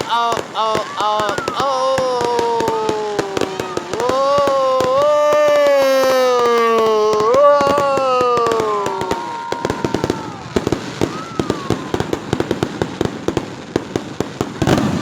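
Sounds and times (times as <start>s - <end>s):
firework bang: 0.0s - 15.0s
fireworks crackling pops: 0.0s - 15.0s.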